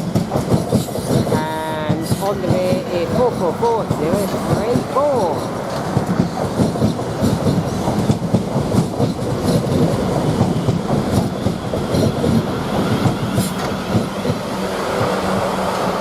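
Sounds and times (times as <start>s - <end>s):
train wheels rumbling and clattering: 0.0s - 16.0s.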